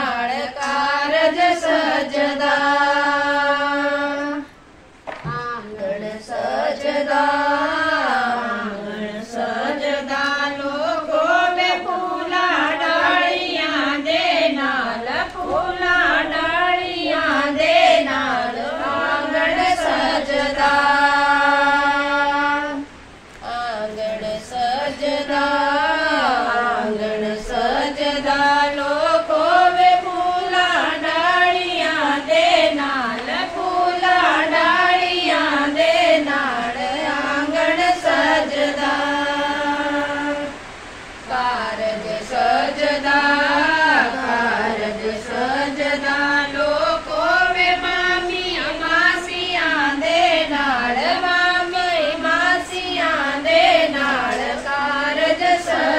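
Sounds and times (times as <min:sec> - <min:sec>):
women singing in unison: 0:00.0 - 0:55.9.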